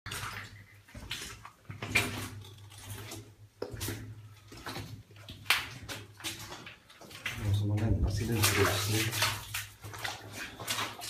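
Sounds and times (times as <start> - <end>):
footsteps splashing through water: 0.0 - 11.0.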